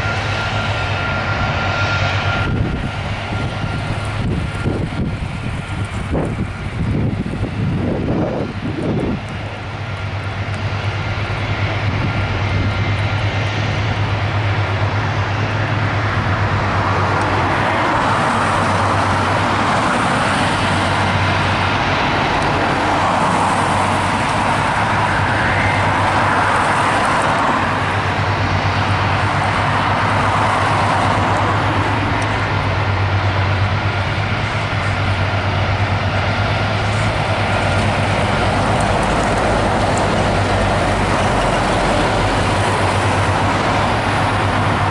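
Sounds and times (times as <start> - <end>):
jet engines at take-off power: 0.0 - 44.9.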